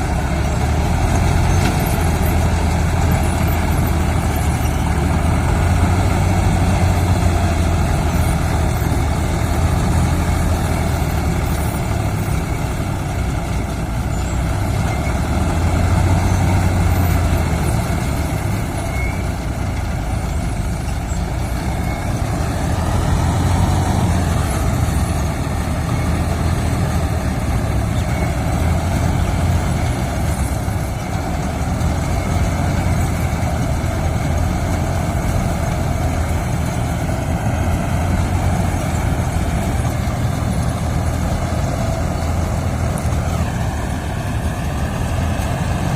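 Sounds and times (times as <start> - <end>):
harvester diesel engine droning: 0.0 - 45.9.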